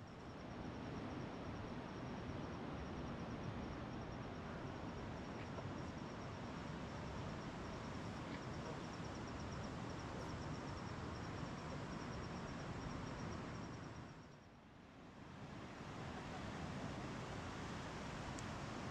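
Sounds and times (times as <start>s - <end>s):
cricket chirping: 0.0s - 18.9s.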